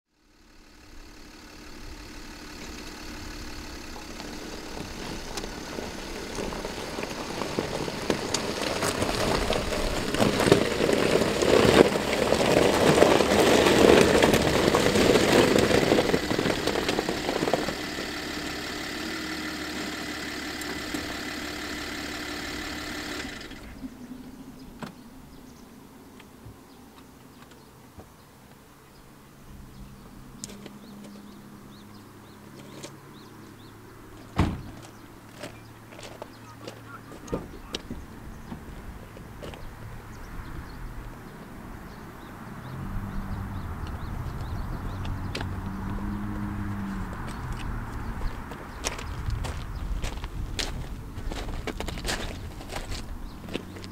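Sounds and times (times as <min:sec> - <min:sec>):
car engine idling: 0:00.1 - 0:25.9, 0:29.0 - 0:53.9
car engine and tyres on gravel: 0:00.1 - 0:53.9
outdoor ambience: 0:00.1 - 0:53.9.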